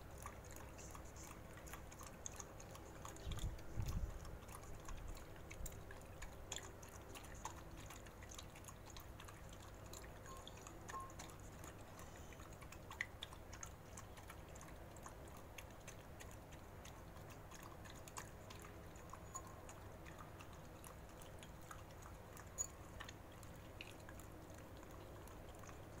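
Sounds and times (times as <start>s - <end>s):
dog chewing and lapping: 0.0s - 26.0s.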